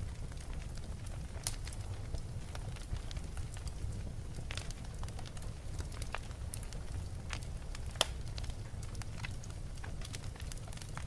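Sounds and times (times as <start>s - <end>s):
fire crackles and pops: 0.0s - 11.0s
low fire rumble: 0.0s - 11.0s.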